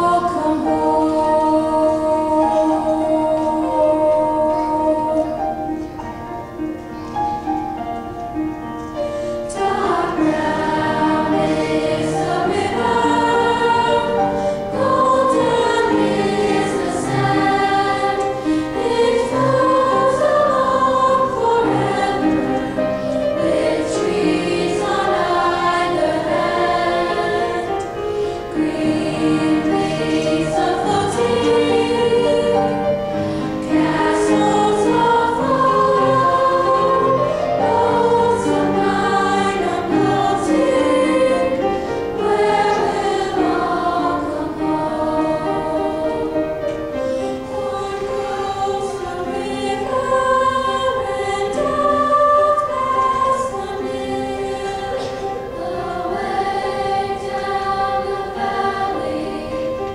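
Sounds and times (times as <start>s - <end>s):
choir singing in parts: 0.0s - 7.8s, 9.0s - 59.9s.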